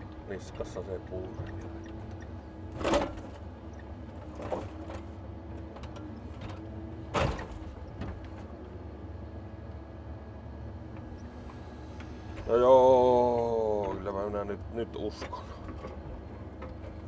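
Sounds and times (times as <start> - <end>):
engine and hydraulic hum: 0.0 - 17.0.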